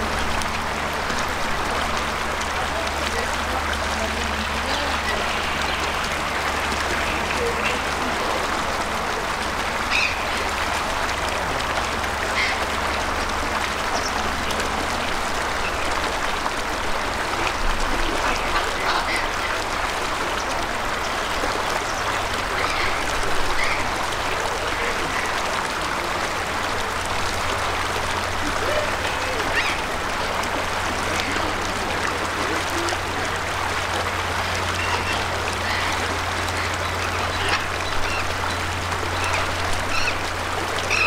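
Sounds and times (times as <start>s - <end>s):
running water rushing: 0.0s - 41.0s.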